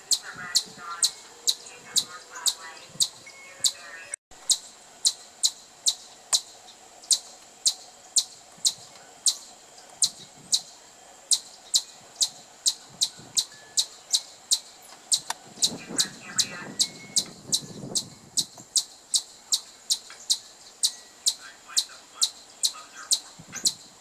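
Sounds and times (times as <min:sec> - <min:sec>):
squirrel chirping: 0:00.0 - 0:24.0.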